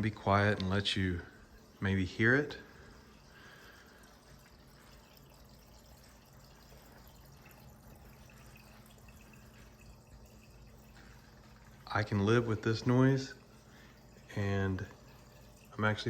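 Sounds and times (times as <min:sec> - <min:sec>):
pump low hum: 0:00.0 - 0:16.0
water trickling and gurgling: 0:00.0 - 0:16.0.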